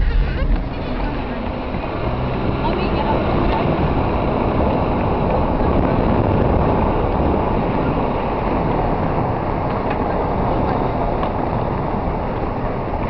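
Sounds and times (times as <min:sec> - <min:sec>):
car engine running: 0:00.0 - 0:13.0
wind rushing on microphone: 0:00.0 - 0:13.0.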